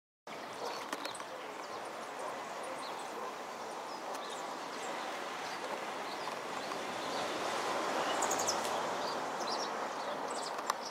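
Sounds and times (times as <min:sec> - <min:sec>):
small birds chirping: 0:00.3 - 0:10.9.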